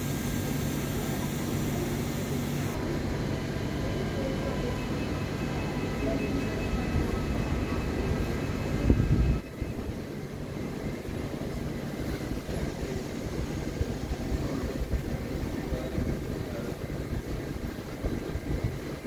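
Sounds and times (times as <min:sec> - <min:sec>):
high train whine: 0:00.0 - 0:19.0
train rumbling: 0:00.0 - 0:19.0.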